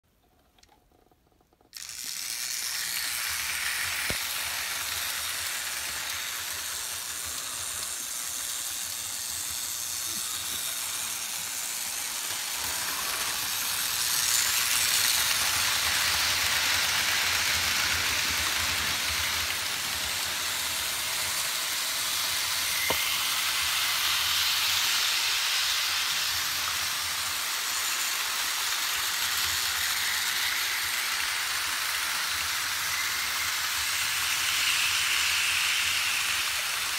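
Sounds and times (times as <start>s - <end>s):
model trains rolling on metal track: 0.2s - 36.9s.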